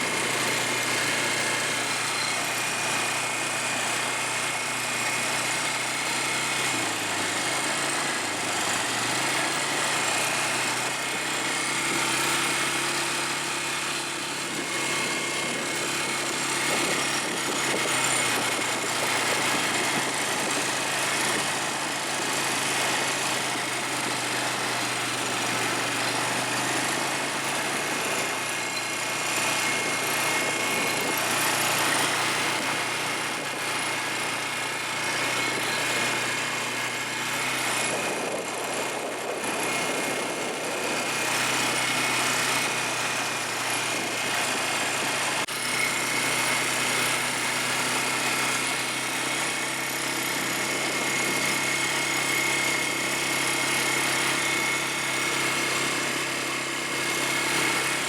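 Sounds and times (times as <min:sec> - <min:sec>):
atv engine running: 0:00.0 - 0:58.0
road noise: 0:00.0 - 0:58.0.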